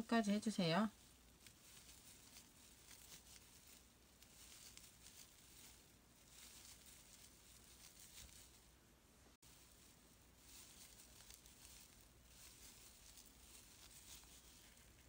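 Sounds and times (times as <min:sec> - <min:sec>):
soft yarn rustling: 0:00.0 - 0:15.0.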